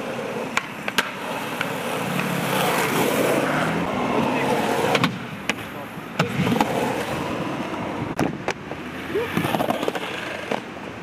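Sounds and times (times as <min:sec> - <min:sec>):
skateboard clacks: 0:00.0 - 0:03.4, 0:04.0 - 0:11.0
skateboard wheels rolling on concrete: 0:00.0 - 0:11.0.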